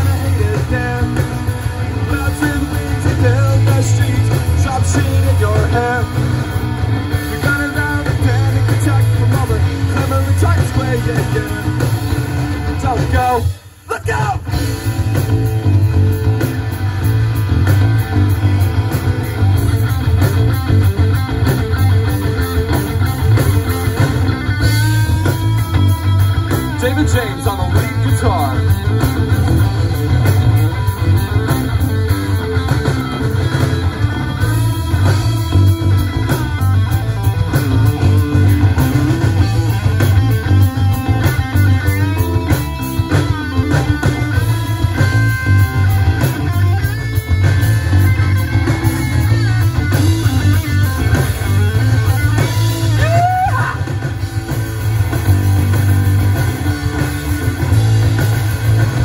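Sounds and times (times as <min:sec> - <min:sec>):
electric guitar bending notes: 0:00.0 - 0:59.0
live rock band playing: 0:00.0 - 0:59.0.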